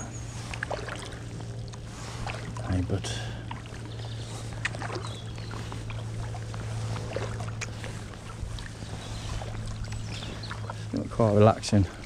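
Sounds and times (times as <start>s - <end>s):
paddle dipping into water: 0.0s - 12.0s
steady low hum: 0.0s - 12.0s
water drips and splashes: 0.0s - 12.0s.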